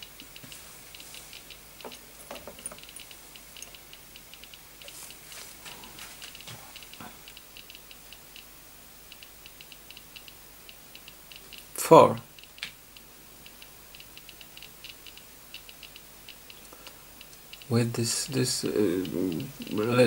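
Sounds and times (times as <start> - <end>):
geiger counter clicking: 0.0 - 5.1, 6.2 - 17.7, 18.6 - 20.0.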